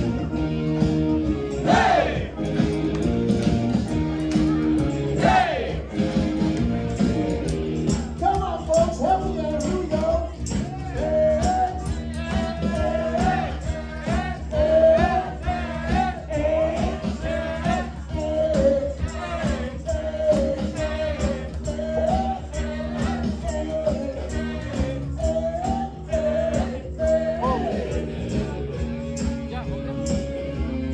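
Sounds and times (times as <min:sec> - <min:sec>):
live rock band playing: 0:00.0 - 0:30.9.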